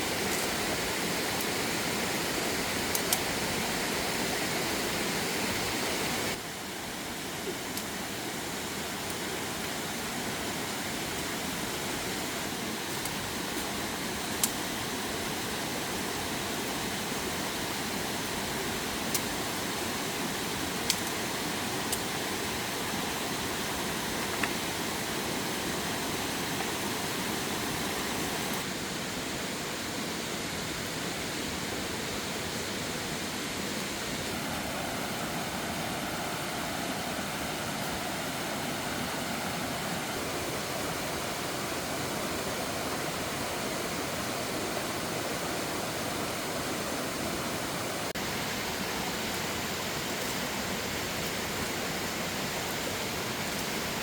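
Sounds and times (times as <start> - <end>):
flowing water rushing: 0.0 - 54.0.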